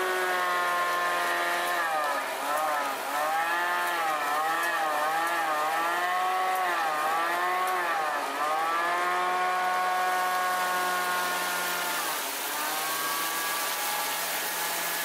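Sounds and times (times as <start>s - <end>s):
nozzle blowing aggregate: 0.0s - 15.0s
pothole patcher machine running: 0.0s - 15.0s.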